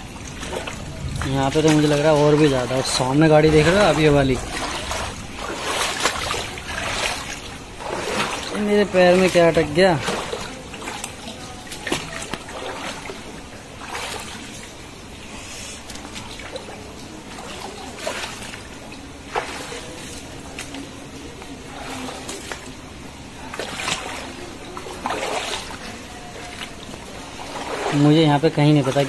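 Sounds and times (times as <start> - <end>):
feet splashing through water: 0.0 - 29.0
steady water noise: 0.0 - 29.0.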